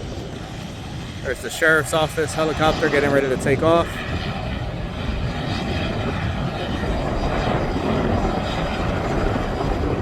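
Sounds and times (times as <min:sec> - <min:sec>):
helicopter engine and rotor: 0:00.0 - 0:10.0.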